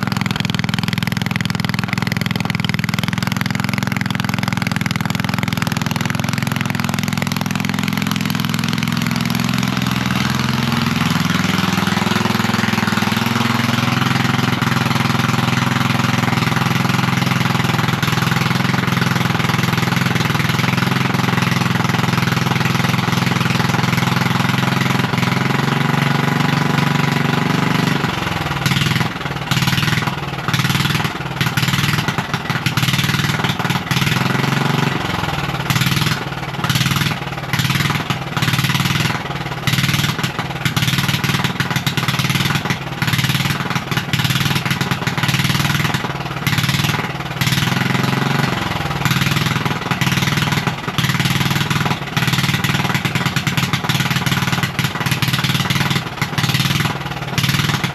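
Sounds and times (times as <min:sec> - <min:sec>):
lawn mower engine revving: 0:00.0 - 0:57.9.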